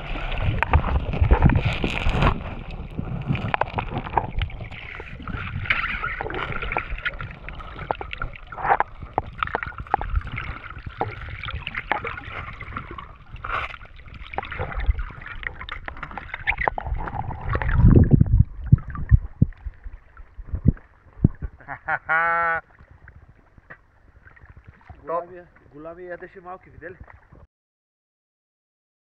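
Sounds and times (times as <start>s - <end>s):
underwater clicks and crackles: 0.0s - 27.5s.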